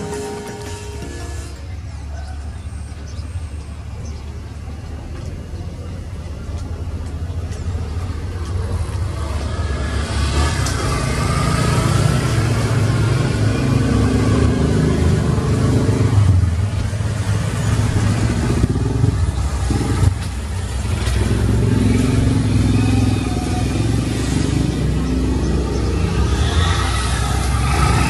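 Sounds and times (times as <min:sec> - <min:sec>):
motor engine rumbling: 0:00.0 - 0:28.0.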